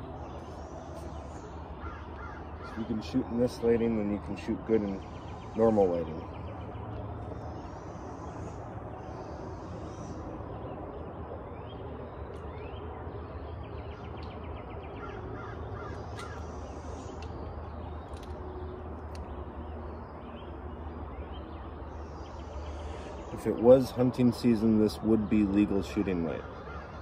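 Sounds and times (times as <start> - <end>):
bird trill: 0.0 - 18.8, 19.7 - 27.0
birds chirping: 0.0 - 27.0.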